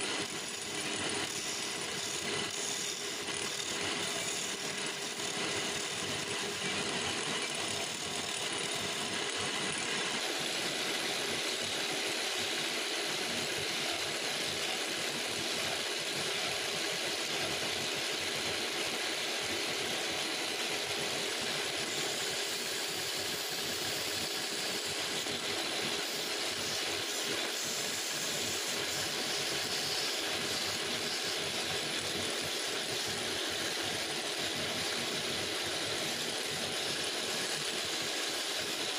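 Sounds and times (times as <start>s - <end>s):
chisel cutting spinning wood: 0.0s - 38.9s
wood lathe running: 0.0s - 38.9s.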